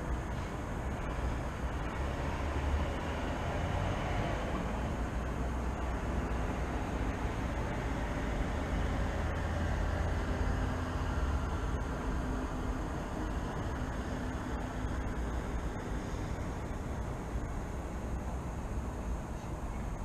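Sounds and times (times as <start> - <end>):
low rumble of city traffic: 0.0 - 20.0.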